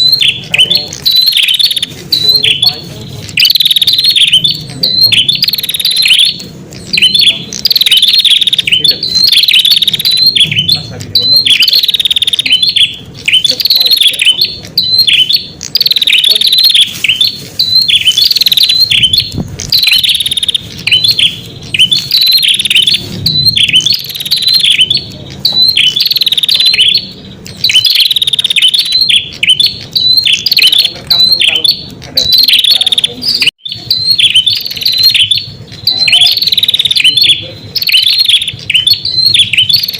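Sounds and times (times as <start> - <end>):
bird song chattering: 0.0 - 39.9.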